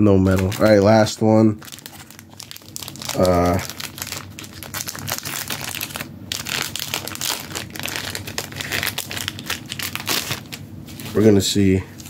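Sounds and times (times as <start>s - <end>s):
foil wrapper crinkling: 0.1s - 12.0s.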